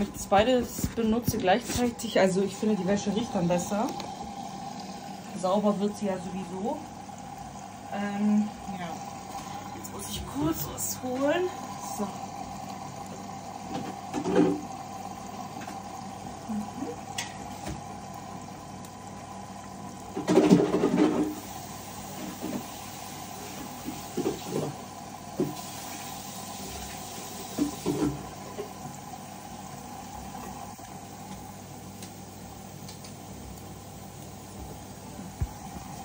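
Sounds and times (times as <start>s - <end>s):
water sloshing in washing machine: 0.0s - 31.9s
washing machine hum: 0.0s - 36.0s.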